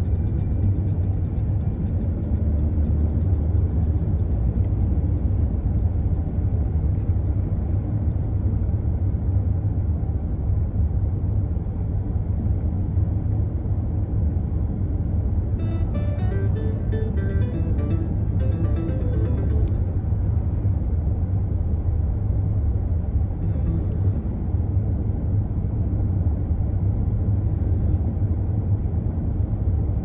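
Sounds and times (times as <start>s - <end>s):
car road rumble from inside: 0.0s - 20.2s, 22.7s - 30.0s.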